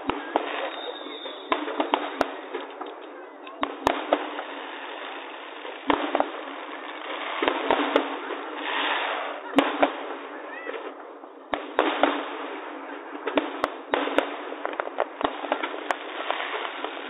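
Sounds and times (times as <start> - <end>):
continuous noisy hiss: 0.0 - 17.0
firework bangs: 0.0 - 17.0.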